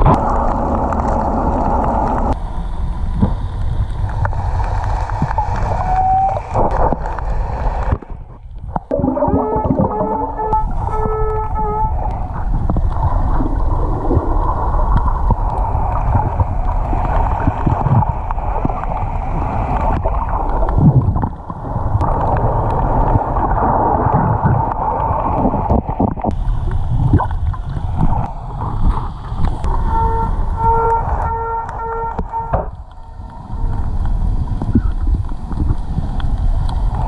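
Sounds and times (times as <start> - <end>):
churning water: 0.0 - 37.0.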